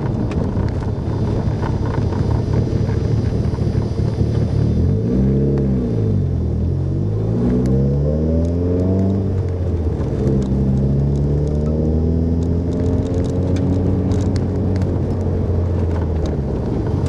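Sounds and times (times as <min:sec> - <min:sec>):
turbocharged car engine revving: 0:00.4 - 0:17.0.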